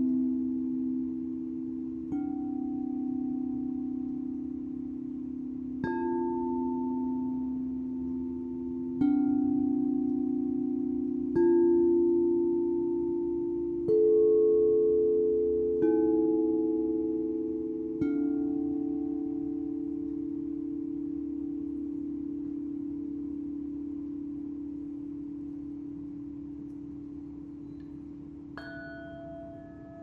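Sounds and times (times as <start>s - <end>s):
singing bowls ringing: 0.0s - 30.0s.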